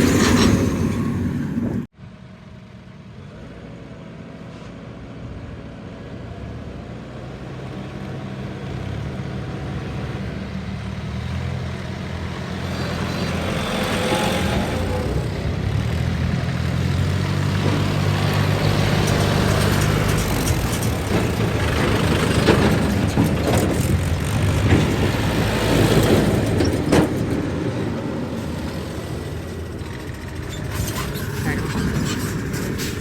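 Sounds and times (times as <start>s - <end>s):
diesel engine running: 0.0s - 1.9s, 6.8s - 33.0s
engine knocks and clanks: 0.0s - 1.9s, 7.1s - 33.0s.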